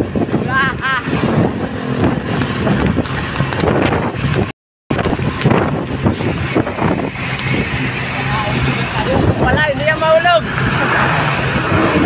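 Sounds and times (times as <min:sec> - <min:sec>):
truck engine and tyres droning: 0:00.0 - 0:12.0
wind buffeting microphone: 0:00.0 - 0:12.0.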